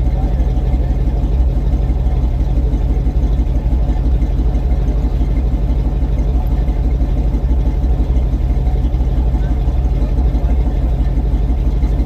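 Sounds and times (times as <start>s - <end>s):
pickup truck engine idling: 0.0s - 12.0s.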